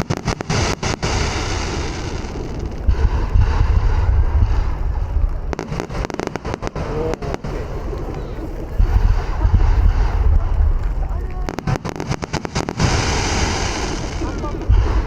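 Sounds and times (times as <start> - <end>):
fireworks booming: 0.0 - 15.0
fireworks crackling pops: 0.0 - 15.0.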